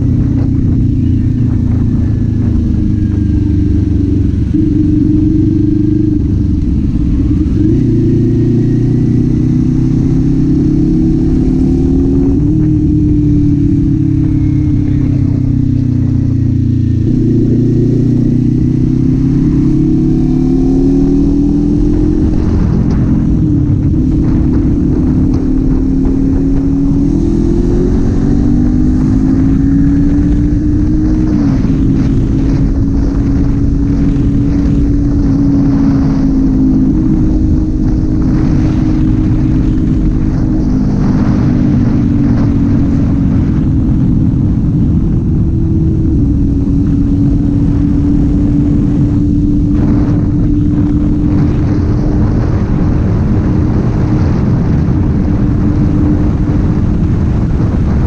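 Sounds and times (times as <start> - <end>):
motorcycle engine running: 0.0 - 58.0
wind rushing: 0.0 - 58.0.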